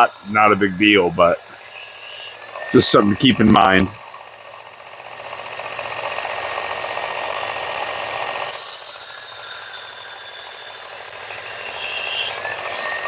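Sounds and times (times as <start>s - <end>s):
belt sharpener motor whirring: 0.0s - 13.0s
blade grinding on belt: 0.0s - 13.0s.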